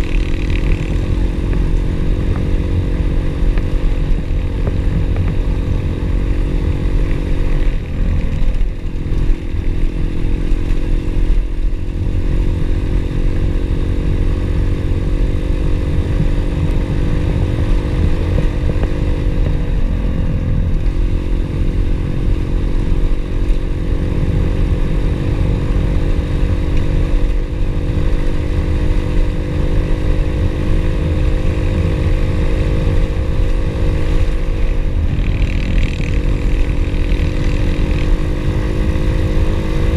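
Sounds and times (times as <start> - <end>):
low rumble: 0.0 - 39.9
pit bike engine running: 0.0 - 39.9.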